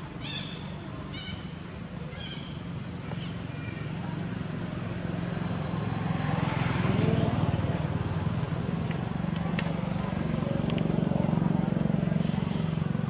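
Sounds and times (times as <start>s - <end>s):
engine humming: 2.3s - 13.0s.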